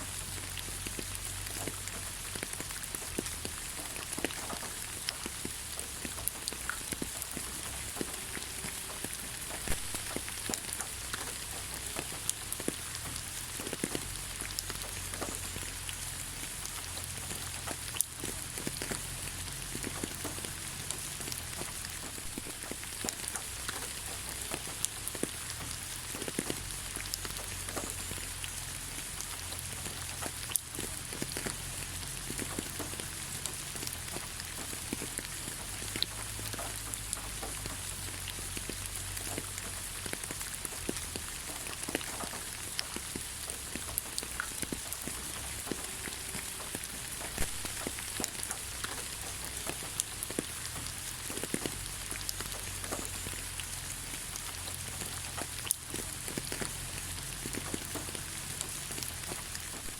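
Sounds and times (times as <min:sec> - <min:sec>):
rain falling on ground: 0:00.0 - 0:59.9.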